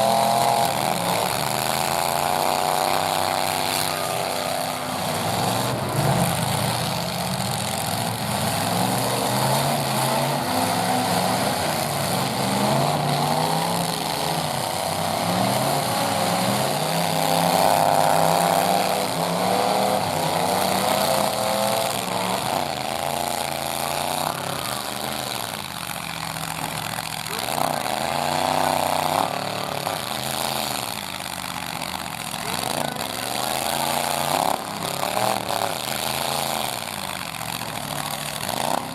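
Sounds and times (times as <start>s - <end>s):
truck engines revving: 0.0s - 38.9s.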